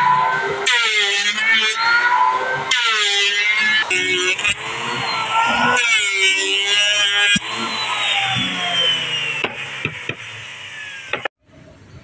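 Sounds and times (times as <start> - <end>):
electric planer whining: 0.0 - 11.3.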